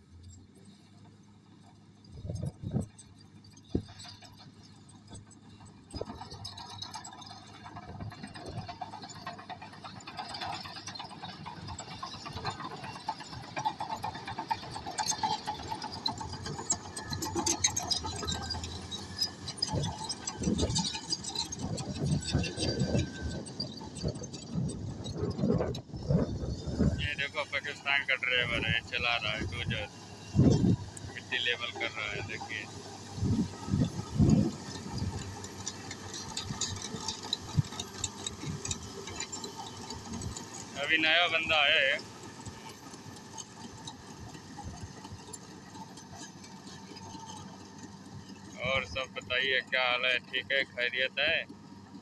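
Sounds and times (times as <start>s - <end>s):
bulldozer diesel engine: 0.0s - 52.0s
steel tracks clicking and rattling: 0.1s - 52.0s.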